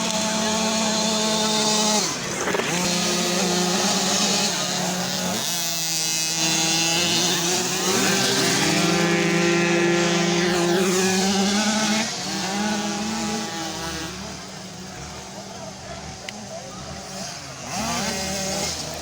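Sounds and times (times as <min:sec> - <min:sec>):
motocross bike engines racing: 0:00.0 - 0:19.0.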